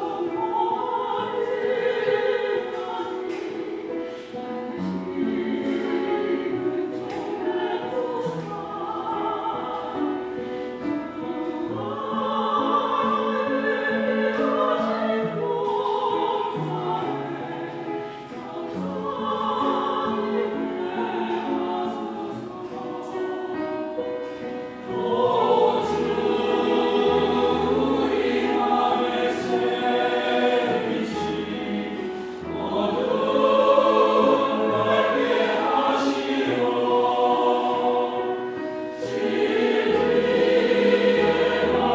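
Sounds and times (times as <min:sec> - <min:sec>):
church choir singing a hymn: 0:00.0 - 0:41.9.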